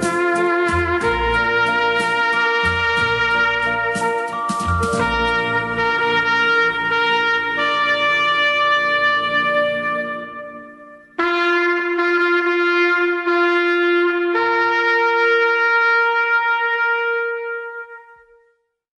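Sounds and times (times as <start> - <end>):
solo wind instrument notes: 0.0 - 18.6.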